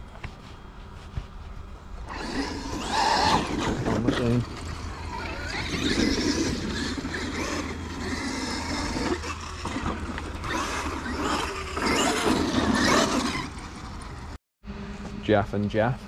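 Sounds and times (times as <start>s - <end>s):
rc truck motor and tyres: 1.8s - 15.7s.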